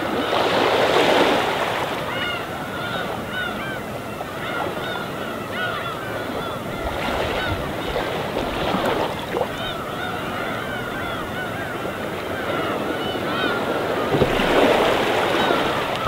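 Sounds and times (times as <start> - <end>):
gulls calling: 0.0 - 16.0
small waves washing ashore: 0.0 - 16.0.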